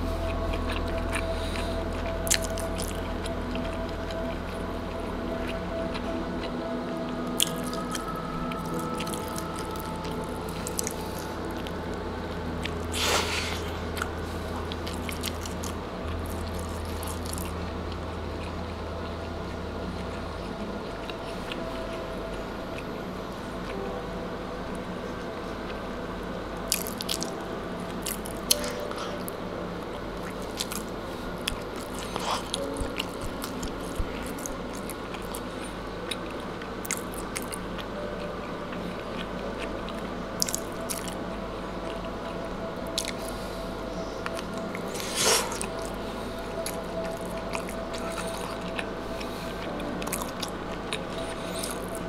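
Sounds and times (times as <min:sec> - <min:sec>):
man chewing food: 0:00.0 - 0:52.0.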